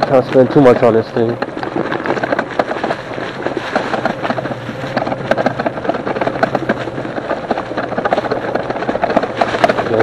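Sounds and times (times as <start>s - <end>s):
bike rack rattling: 0.0s - 10.0s.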